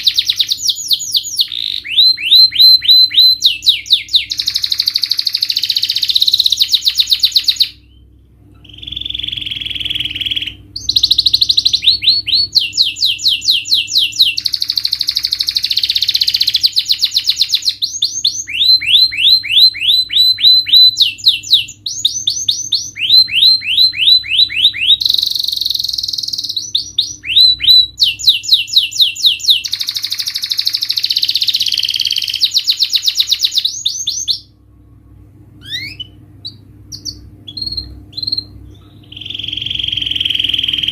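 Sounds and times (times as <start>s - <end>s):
canary singing trills: 0.0s - 34.6s, 35.6s - 40.9s.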